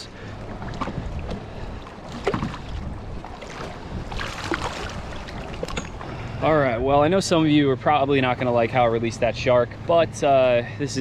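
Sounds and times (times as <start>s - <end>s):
water: 0.0s - 11.0s
wind: 0.0s - 11.0s.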